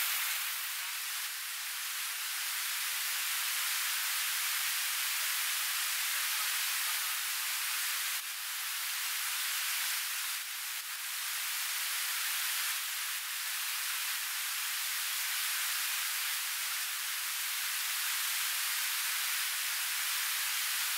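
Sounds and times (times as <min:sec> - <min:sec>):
fritters sizzling in hot oil: 0:00.0 - 0:20.9.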